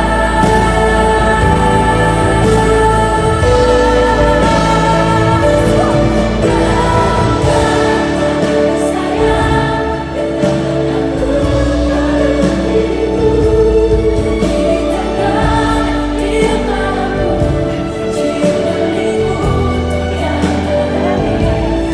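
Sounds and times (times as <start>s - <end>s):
choir-like voices: 0.0s - 21.9s
orchestral accompaniment: 0.0s - 21.9s
woman singing a ballad: 0.0s - 21.9s.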